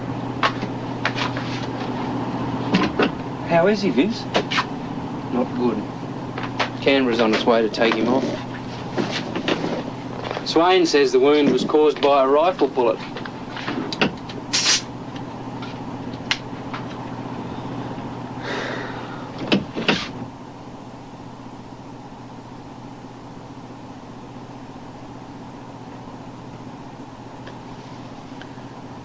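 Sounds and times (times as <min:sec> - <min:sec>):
boat engines droning: 0:00.0 - 0:29.0.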